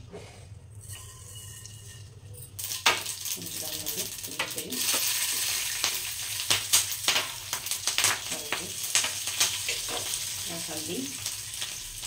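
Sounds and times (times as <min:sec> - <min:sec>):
seeds crackling in hot oil: 0:00.8 - 0:12.0.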